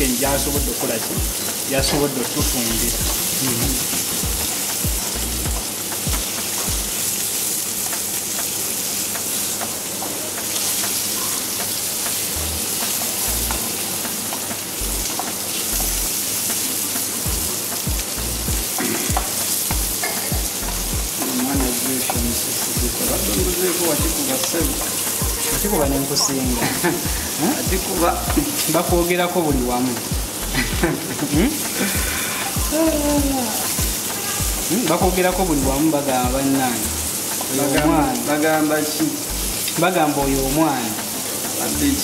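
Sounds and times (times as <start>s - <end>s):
vegetables sizzling in oil: 0.0s - 42.0s.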